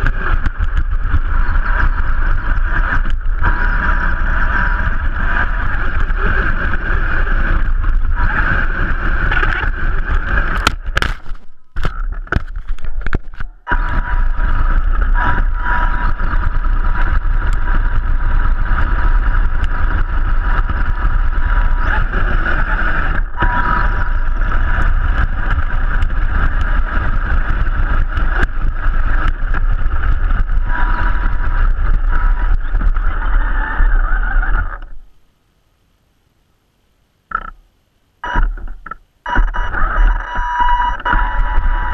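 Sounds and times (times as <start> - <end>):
electric motor whine: 0.0 - 35.1, 38.2 - 41.9.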